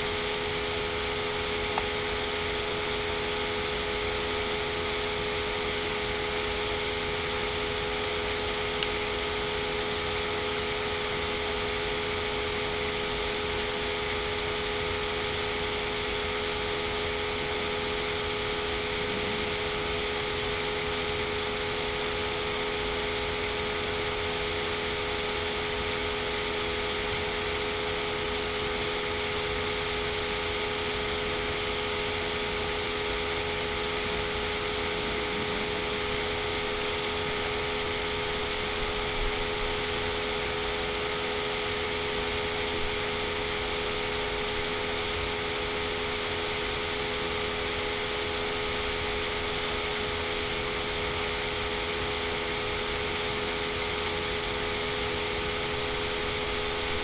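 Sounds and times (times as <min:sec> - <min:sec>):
background hum and hiss: 0:00.0 - 0:57.0.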